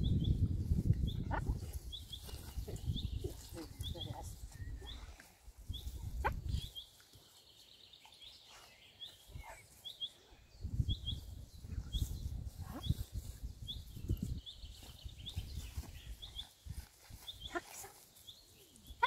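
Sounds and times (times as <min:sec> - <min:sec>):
small bird chirping: 0:00.0 - 0:05.1, 0:05.7 - 0:19.0.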